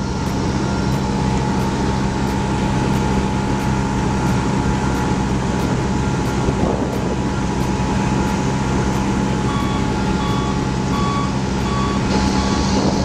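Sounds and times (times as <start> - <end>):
diesel engine running: 0.0 - 13.0
reversing alarm beeps: 0.0 - 13.0.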